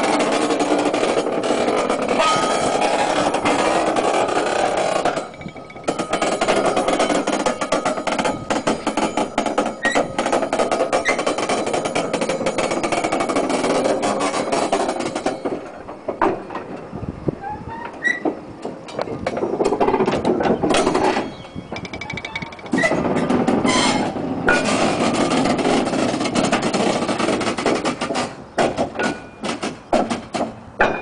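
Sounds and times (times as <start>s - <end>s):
train wheels clattering on track: 0.0s - 16.9s, 17.9s - 31.0s.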